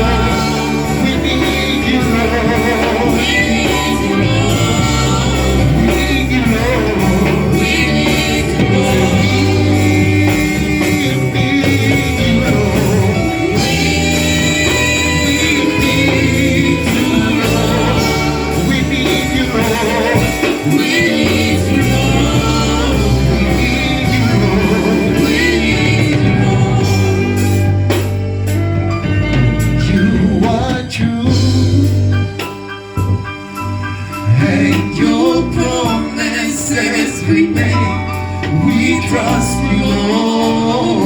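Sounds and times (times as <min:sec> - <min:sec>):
voices singing: 0:00.0 - 0:32.9, 0:33.8 - 0:41.0
band playing gospel music: 0:00.0 - 0:41.0.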